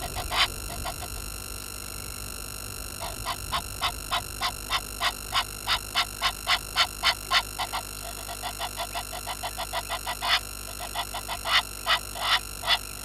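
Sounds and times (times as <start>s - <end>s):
frog croaking: 0.0s - 1.4s, 2.9s - 13.0s.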